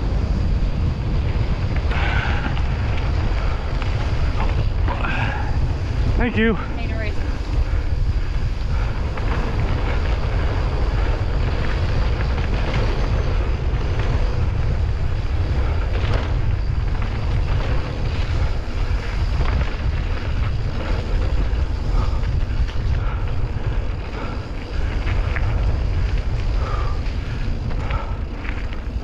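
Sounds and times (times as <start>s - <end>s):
bike clicks and rattles: 0.0s - 29.0s
tyre noise on dirt: 0.0s - 29.0s
wind buffeting microphone: 0.0s - 29.0s.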